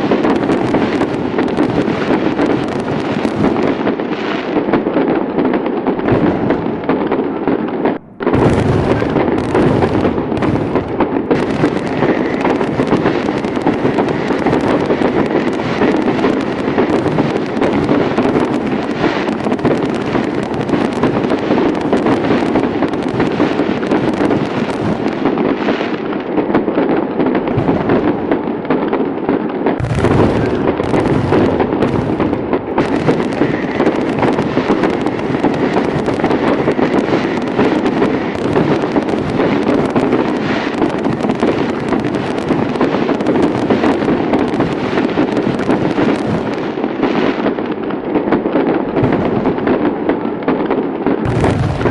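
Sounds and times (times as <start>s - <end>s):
fireworks bangs and crackle: 0.0s - 51.9s.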